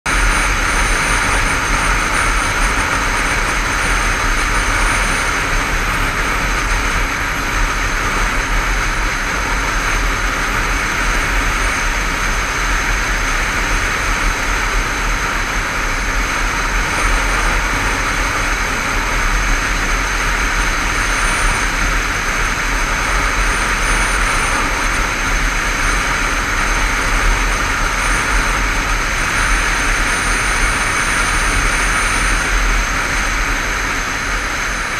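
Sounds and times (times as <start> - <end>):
motorcycle engine drone: 0.1 - 34.9
wind rush over microphone: 0.1 - 34.9.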